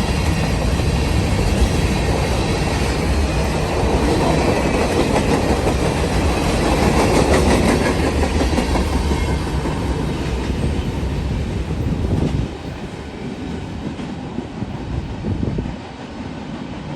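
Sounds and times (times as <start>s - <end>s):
freight train wheels clicking: 0.0s - 16.9s.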